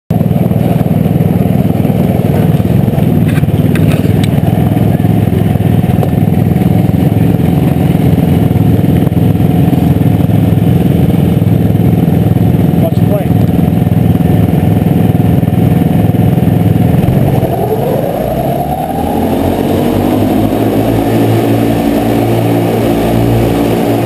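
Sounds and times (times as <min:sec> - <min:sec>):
snowmobile engines idling: 0:00.2 - 0:24.0.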